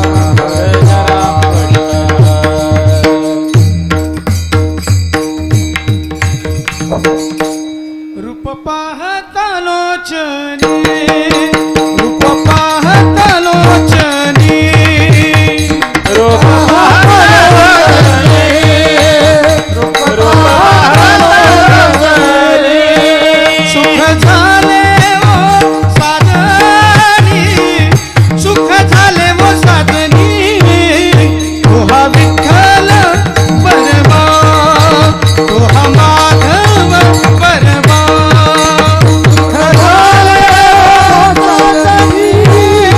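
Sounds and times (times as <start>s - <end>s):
man singing: 0.0s - 4.2s, 8.2s - 42.9s
hand drum playing: 0.0s - 7.6s, 10.8s - 42.9s.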